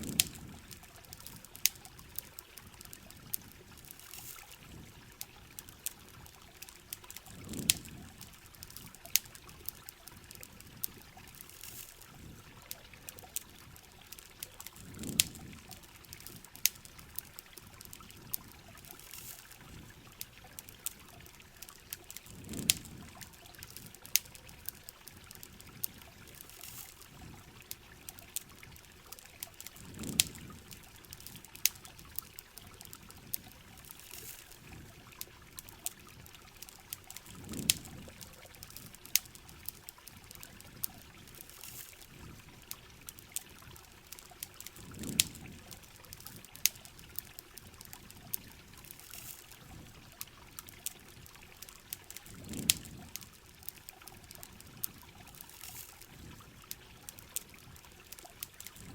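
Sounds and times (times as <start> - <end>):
campfire crackling and popping: 0.0 - 58.9
steady rain: 0.0 - 58.9
trickling water: 0.0 - 58.9.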